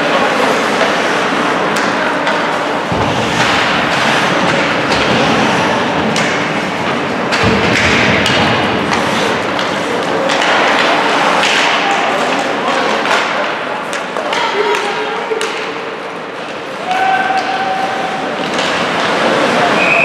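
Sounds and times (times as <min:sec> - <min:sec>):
ice hockey arena noise: 0:00.0 - 0:20.0.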